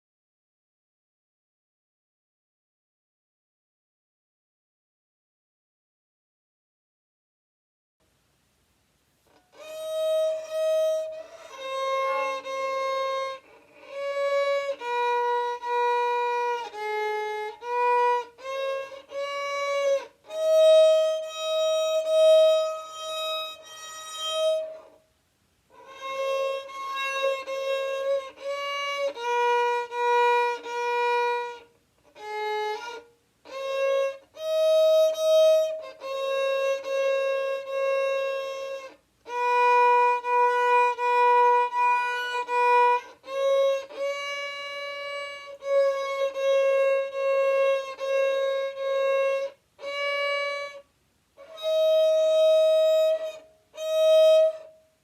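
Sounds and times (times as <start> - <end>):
solo violin slow melody: 9.2 - 25.0, 25.7 - 55.0.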